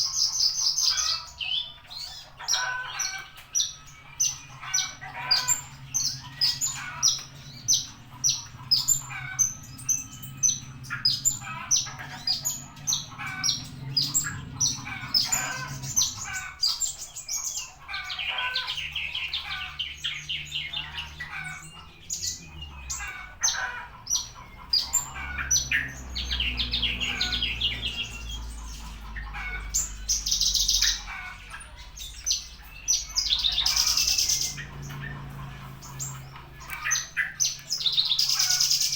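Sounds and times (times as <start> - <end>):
lark chirping and trilling: 0.0 - 38.9.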